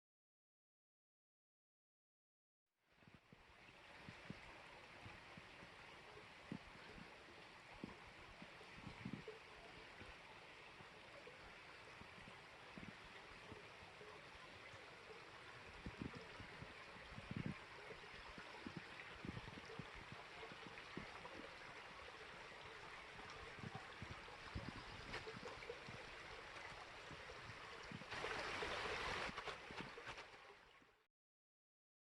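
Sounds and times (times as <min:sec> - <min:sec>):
creek water running: 0:02.9 - 0:31.0.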